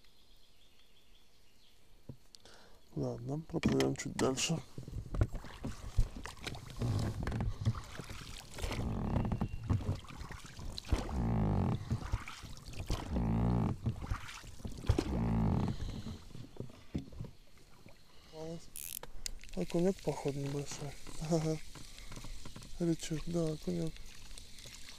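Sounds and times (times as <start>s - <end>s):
oars creaking in oarlocks: 2.1s - 24.9s
water splashing off oar blades: 3.6s - 24.9s.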